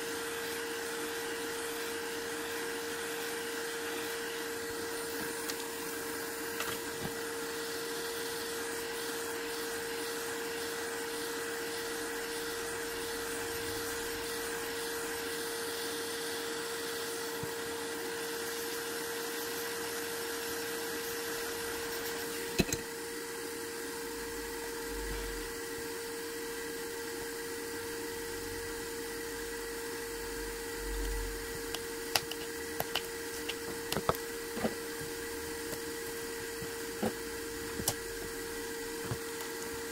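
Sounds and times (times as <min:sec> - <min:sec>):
electric fan motor whirring: 0:00.0 - 0:39.9.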